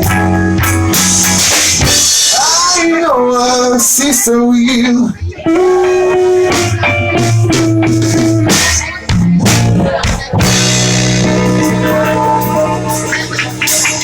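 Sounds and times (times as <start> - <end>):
rock music with drums and guitar: 0.0 - 3.0, 5.4 - 14.0.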